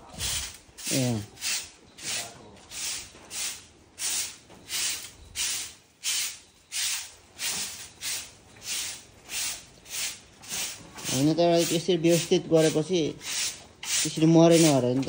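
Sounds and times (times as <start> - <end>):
rhythmic rasping scraping: 0.0 - 15.0.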